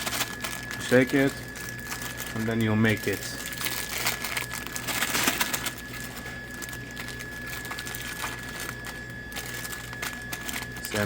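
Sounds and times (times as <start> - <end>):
plastic snack bags crinkling: 0.0 - 11.0.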